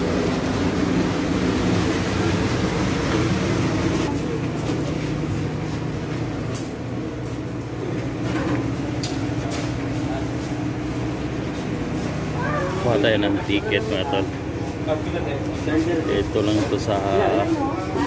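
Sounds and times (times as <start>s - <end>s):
ferry engines droning: 0.0s - 18.0s.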